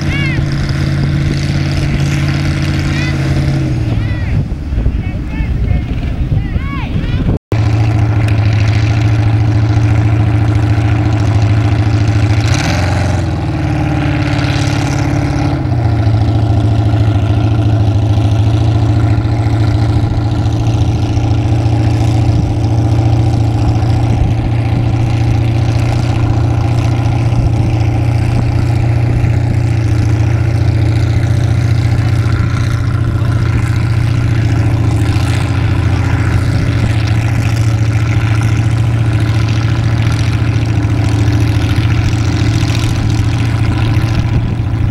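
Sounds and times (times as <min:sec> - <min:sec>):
truck engine revving: 0:00.0 - 0:04.9, 0:07.2 - 0:44.9.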